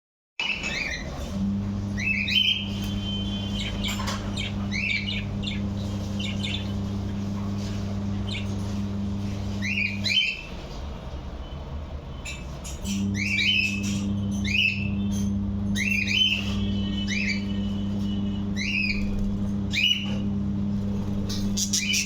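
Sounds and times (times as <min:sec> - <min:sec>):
budgerigars chirping and squawking: 0:00.4 - 0:10.8, 0:12.2 - 0:14.9, 0:15.8 - 0:20.2, 0:21.0 - 0:22.0
steady low hum: 0:01.1 - 0:22.0.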